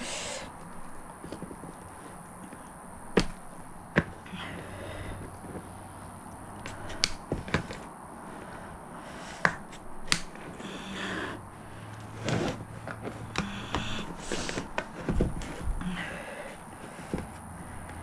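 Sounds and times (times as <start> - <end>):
rustling plastic and soil: 0.0 - 9.1, 9.7 - 18.0.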